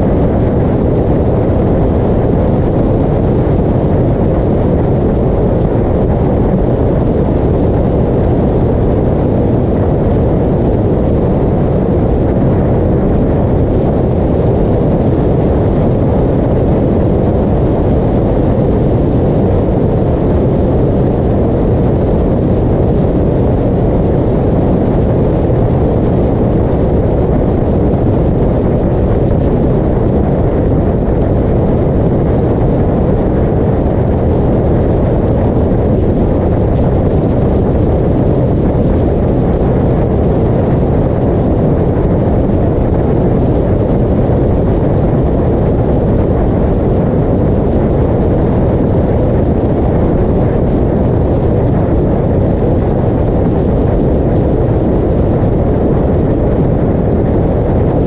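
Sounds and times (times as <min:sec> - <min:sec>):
motorcycle engine and road noise: 0:00.0 - 0:58.0
wind rushing on microphone: 0:00.0 - 0:58.0.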